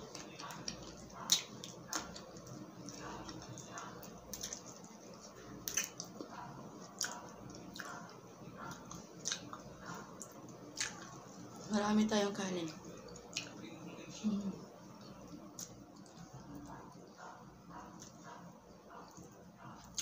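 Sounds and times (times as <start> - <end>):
wet chewing: 0.0 - 11.7, 12.9 - 13.6, 15.0 - 20.0.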